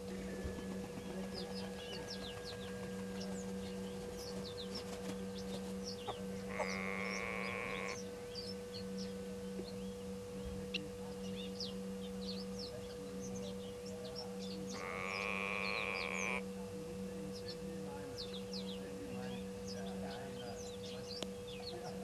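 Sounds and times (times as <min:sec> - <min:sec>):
buzzing drone: 0:00.0 - 0:22.0
steady low hum: 0:00.0 - 0:22.0
bird chirps and calls: 0:00.5 - 0:16.5, 0:17.2 - 0:22.0.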